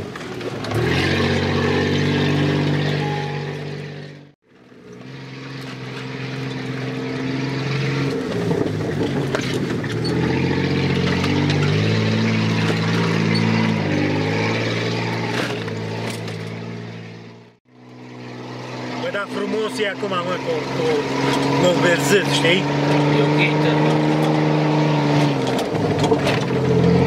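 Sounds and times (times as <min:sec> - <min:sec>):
vehicle engine from inside cab: 0:00.0 - 0:27.0.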